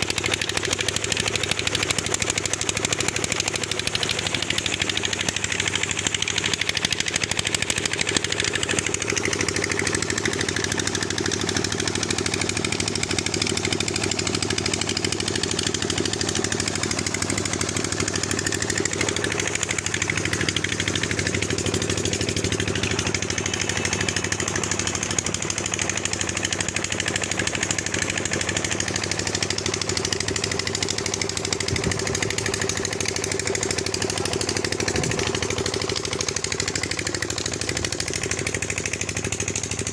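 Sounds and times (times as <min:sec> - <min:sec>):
diesel pump engine knocking: 0:00.0 - 0:39.9.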